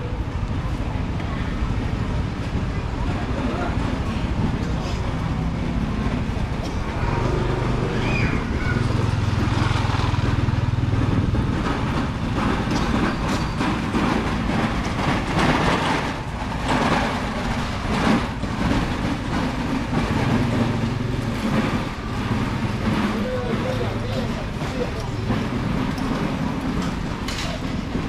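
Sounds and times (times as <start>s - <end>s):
street clatter and bustle: 0.0s - 28.0s
vehicle engine humming: 0.0s - 28.0s.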